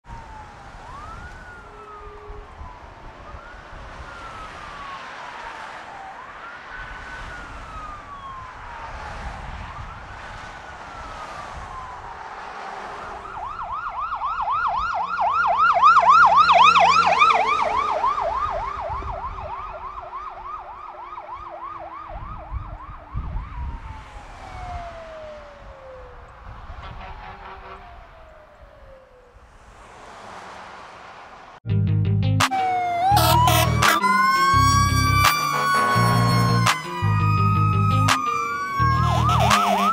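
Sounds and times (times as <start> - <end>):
fire engine siren: 0.0 - 29.7, 32.4 - 39.9
passing traffic noise: 0.0 - 31.7, 32.4 - 39.9.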